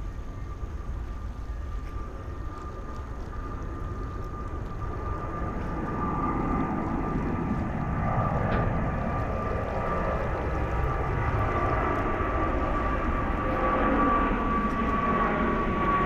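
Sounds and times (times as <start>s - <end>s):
jet engines whining and rumbling: 0.0s - 16.0s.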